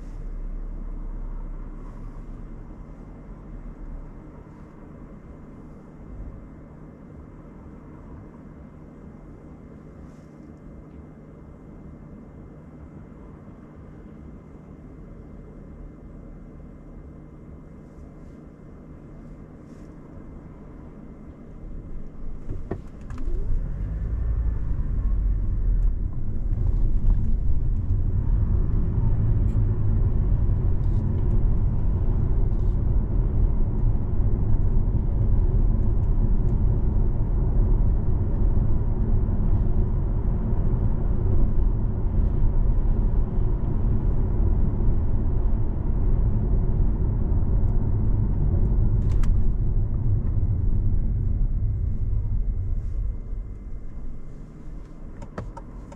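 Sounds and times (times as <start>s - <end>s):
car tyres and engine rumbling: 0.0s - 55.9s.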